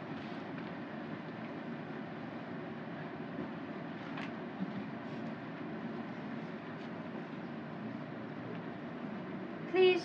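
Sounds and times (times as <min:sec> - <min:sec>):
low hiss and hum: 0:00.0 - 0:10.0.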